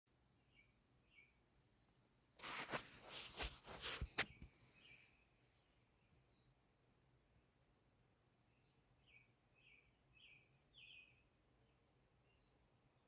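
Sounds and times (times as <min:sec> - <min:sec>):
faint bird chirps: 0:00.1 - 0:13.0.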